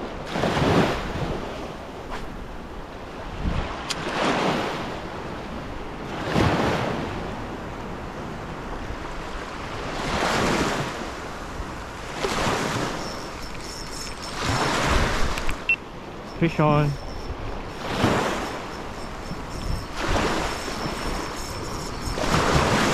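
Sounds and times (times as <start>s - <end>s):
small waves washing ashore: 0.0s - 22.9s
wind on microphone: 0.0s - 22.9s.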